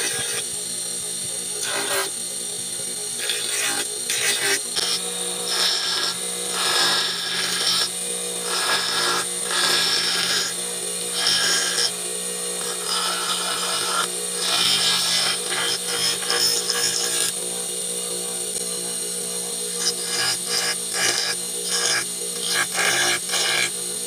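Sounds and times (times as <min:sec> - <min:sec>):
bench grinder humming: 0:00.0 - 0:24.0
horn rasping against grinding wheel: 0:00.0 - 0:24.0.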